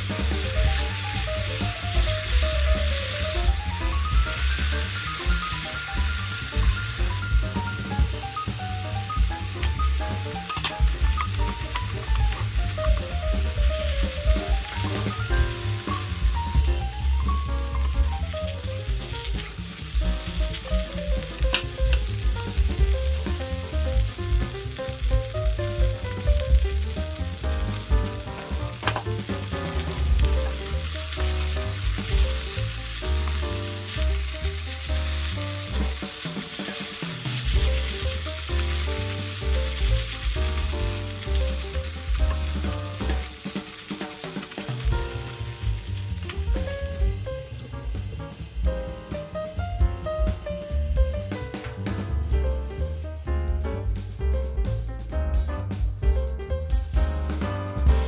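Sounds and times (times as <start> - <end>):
rice sizzling in a wok: 0.0 - 53.0, 56.7 - 58.0.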